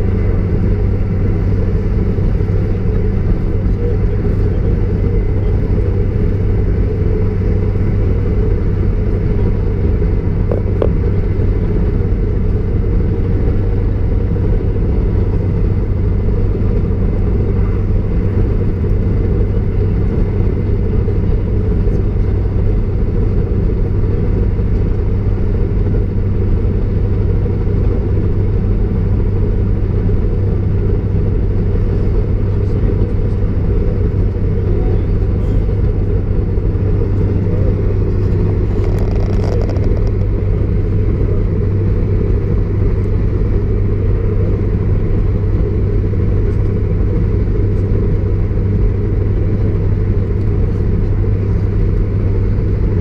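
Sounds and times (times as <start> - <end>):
diesel train rumble: 0.0 - 53.0.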